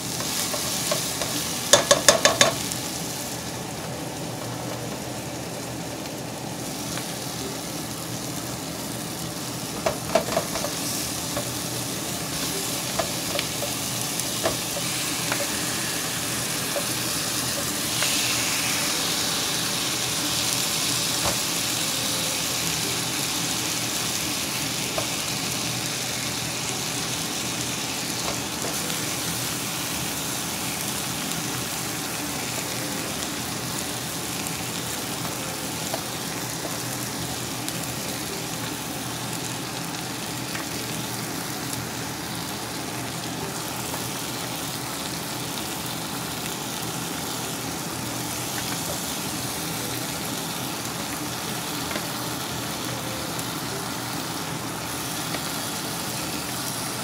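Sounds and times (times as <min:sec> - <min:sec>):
meat sizzling in a pot: 0:00.0 - 0:57.0.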